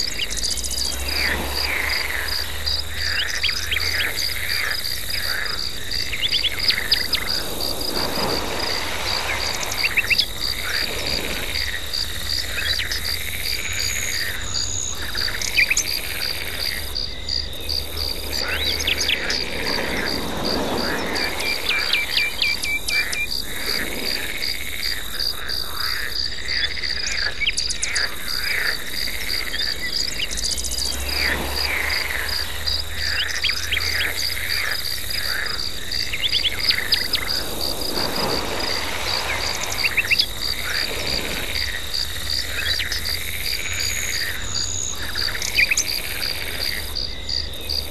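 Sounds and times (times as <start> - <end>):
frogs croaking: 0.0 - 47.9
insect trill: 0.0 - 47.9.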